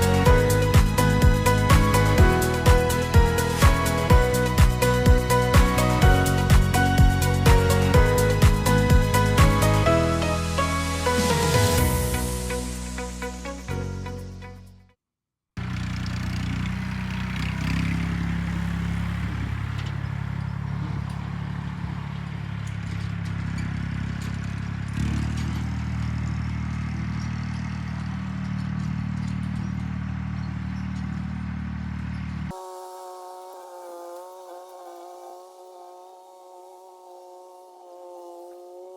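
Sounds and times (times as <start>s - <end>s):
tractor engine running: 0.0s - 14.5s, 15.6s - 32.6s.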